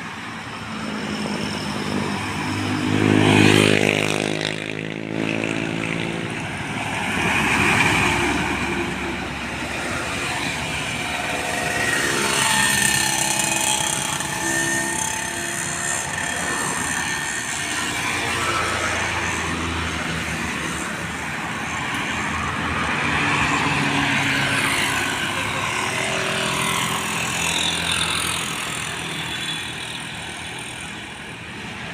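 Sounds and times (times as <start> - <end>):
heavy trucks passing: 0.0 - 31.9
road traffic: 0.0 - 31.9.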